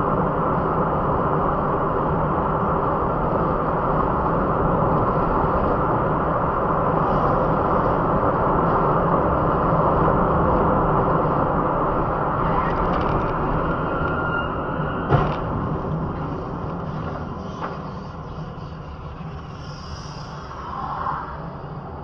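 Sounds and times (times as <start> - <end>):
car engine and tyre noise: 0.0 - 22.0.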